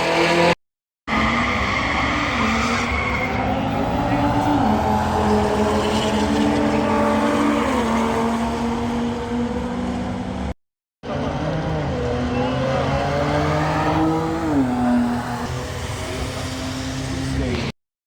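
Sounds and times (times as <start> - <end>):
car engines running hard: 1.1 - 17.7.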